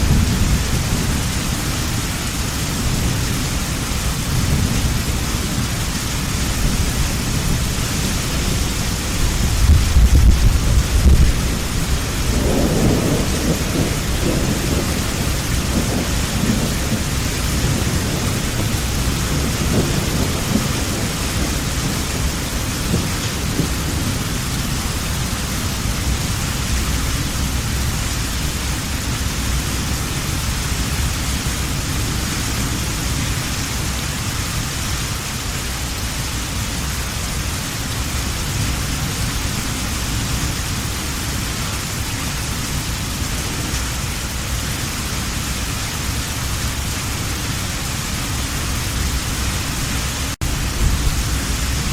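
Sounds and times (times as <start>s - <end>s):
low thunder rumble: 0.0s - 34.5s, 38.4s - 51.9s
heavy rain: 0.0s - 51.9s.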